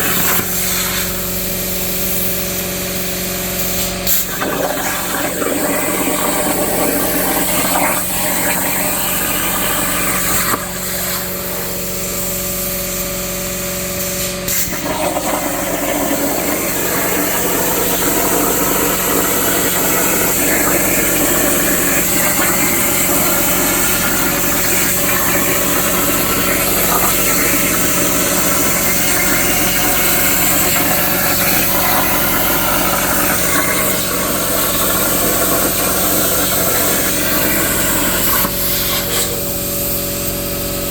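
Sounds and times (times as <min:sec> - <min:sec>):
plasma torch hissing: 0:00.0 - 0:13.0, 0:14.0 - 0:40.4.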